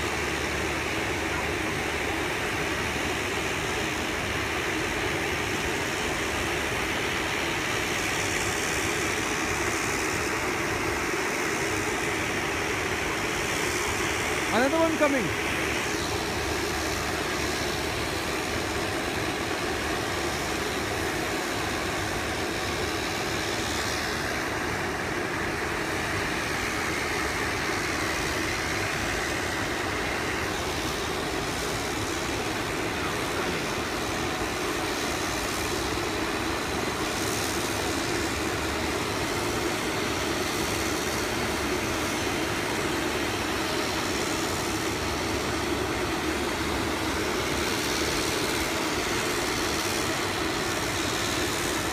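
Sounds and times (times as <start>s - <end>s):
turboprop engines droning: 0.0s - 51.9s.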